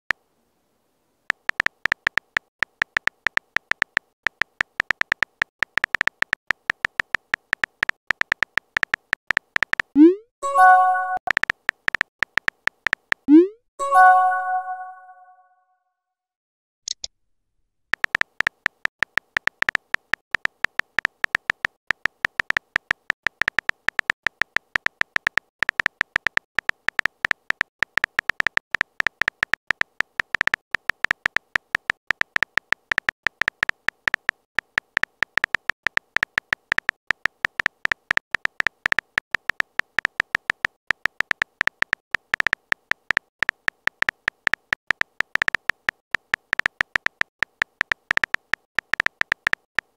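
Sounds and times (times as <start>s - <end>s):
keystroke clicks: 1.3s - 14.8s, 17.9s - 49.9s.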